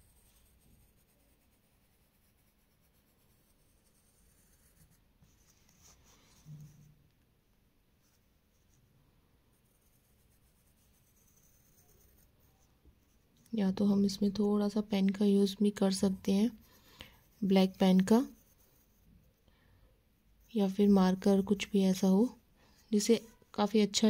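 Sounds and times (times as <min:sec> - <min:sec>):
pencil scratching on paper: 0:00.0 - 0:07.0, 0:08.0 - 0:19.5, 0:20.1 - 0:24.0.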